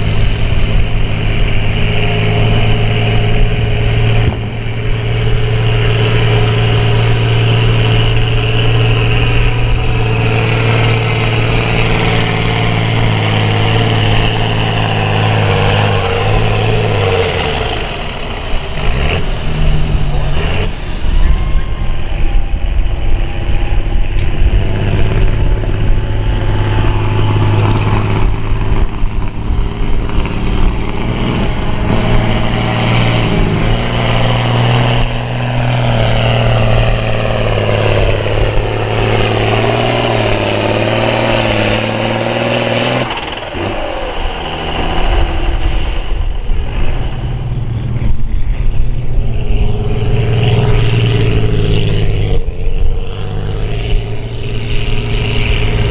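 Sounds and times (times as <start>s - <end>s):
diesel tractor engine under load: 0.0s - 55.9s
engine whine shifting pitch: 0.0s - 55.9s.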